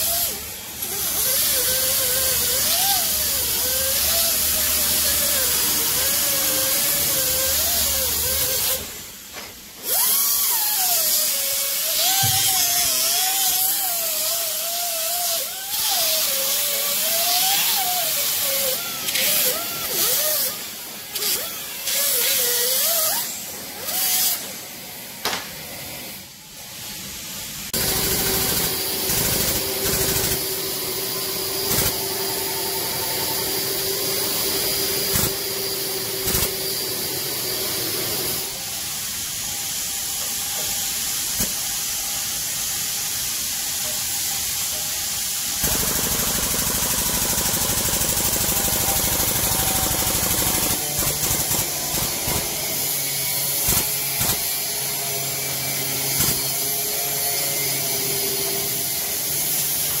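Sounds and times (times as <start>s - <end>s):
hydraulic jack buzzing hiss: 0.0s - 55.4s.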